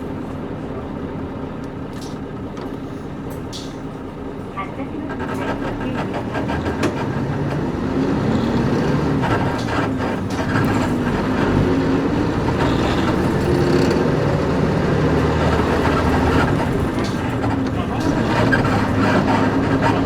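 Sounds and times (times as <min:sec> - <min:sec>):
bus diesel engine: 0:00.0 - 0:20.0
road noise: 0:00.0 - 0:20.0.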